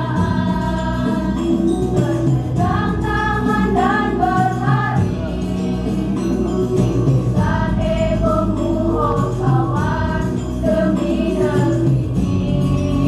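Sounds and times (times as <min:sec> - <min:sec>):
choir singing: 0:00.0 - 0:13.0
musical accompaniment: 0:00.0 - 0:13.0.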